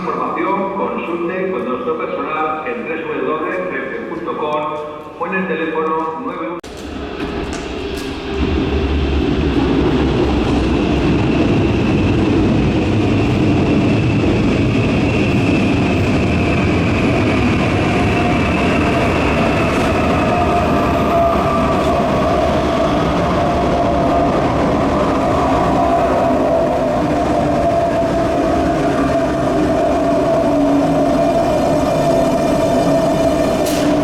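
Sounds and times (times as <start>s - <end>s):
train wheels rumbling on rails: 6.0s - 34.0s.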